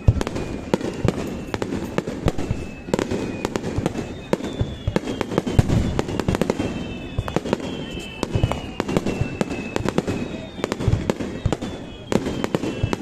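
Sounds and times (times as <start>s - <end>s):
thin firework whistles: 0.0s - 13.0s.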